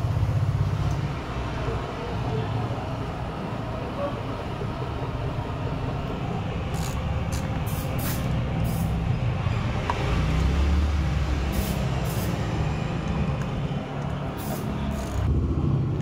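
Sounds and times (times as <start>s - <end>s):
low rumble of traffic: 0.0s - 16.0s.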